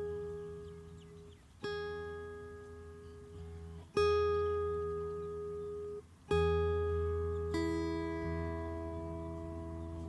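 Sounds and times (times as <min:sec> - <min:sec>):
soft acoustic guitar chords: 0:00.0 - 0:10.0.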